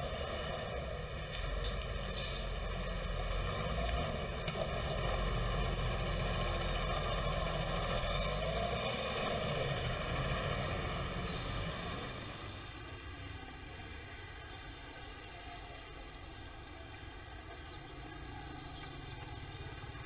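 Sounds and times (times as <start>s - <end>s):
traffic engines droning: 0.0s - 20.0s.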